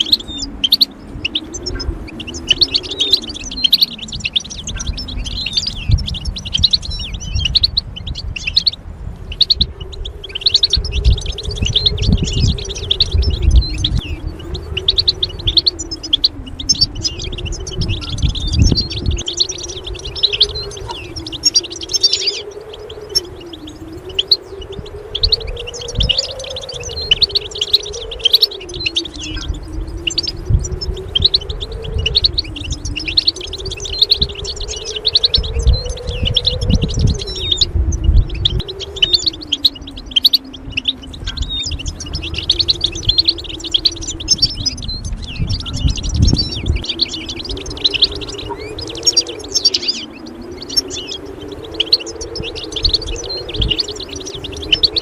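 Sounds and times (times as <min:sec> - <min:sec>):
bird twittering and chirping: 0:00.0 - 0:55.0
low wavering hum: 0:00.0 - 0:55.0.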